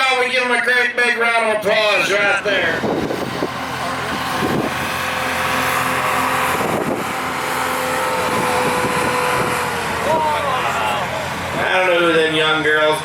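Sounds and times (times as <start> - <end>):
vehicle engine running: 2.1 - 13.0.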